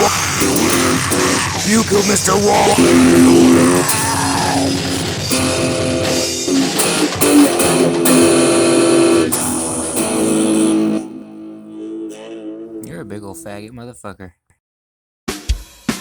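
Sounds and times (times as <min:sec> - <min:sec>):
distorted guitar music: 0:00.0 - 0:13.7.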